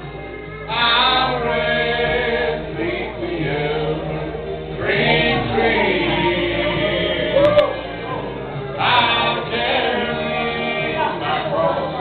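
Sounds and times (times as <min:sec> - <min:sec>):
congregation singing gospel: 0:00.0 - 0:12.0
man singing through a microphone: 0:00.7 - 0:12.0.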